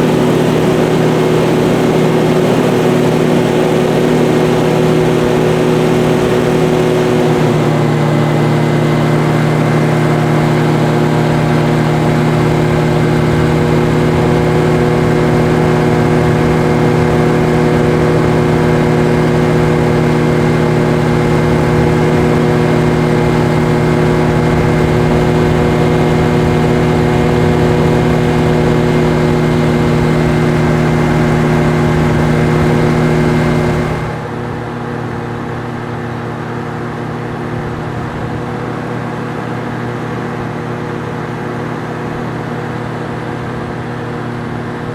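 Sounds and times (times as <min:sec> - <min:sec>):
hovercraft engine and fans: 0:00.0 - 0:44.9.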